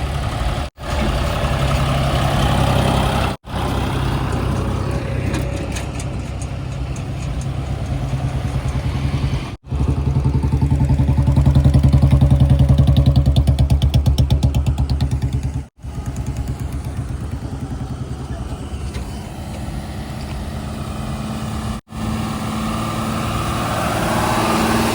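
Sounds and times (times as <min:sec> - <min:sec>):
diesel engine throbbing: 0:00.0 - 0:24.9.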